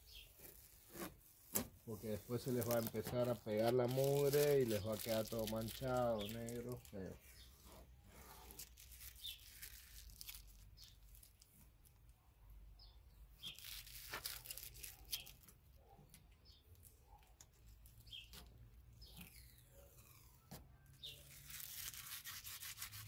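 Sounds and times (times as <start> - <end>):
adhesive tape tearing and crackling: 0.0 - 12.1, 13.4 - 23.0.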